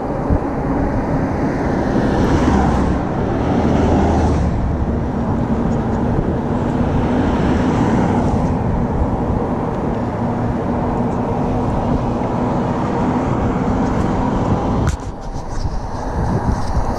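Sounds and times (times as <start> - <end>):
tyre and road noise: 0.0 - 16.9
wind on camera microphone: 0.0 - 16.9.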